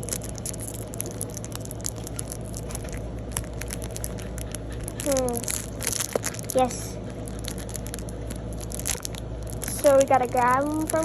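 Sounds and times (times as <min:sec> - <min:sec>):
cards and foil wrapper crackling: 0:00.0 - 0:11.0
steady low hum: 0:00.0 - 0:11.0.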